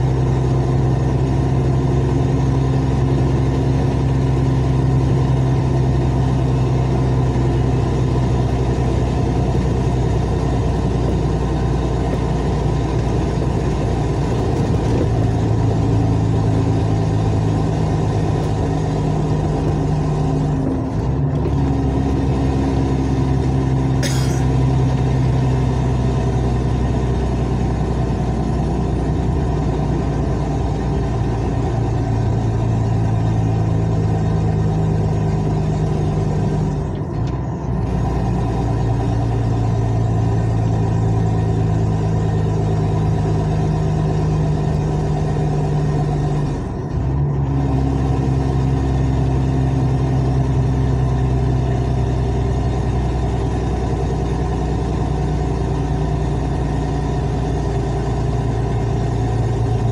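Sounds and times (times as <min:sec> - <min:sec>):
car engine with rough exhaust: 0:00.0 - 0:59.9.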